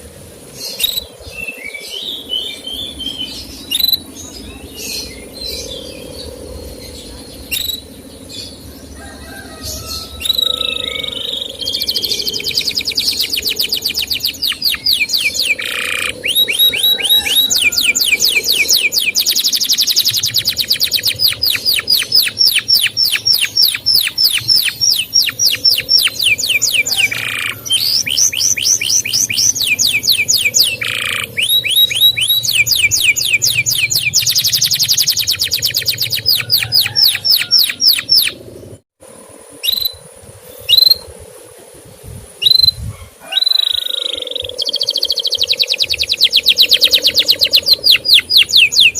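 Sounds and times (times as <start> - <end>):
canary singing chirps: 0.6 - 38.8, 42.4 - 48.9.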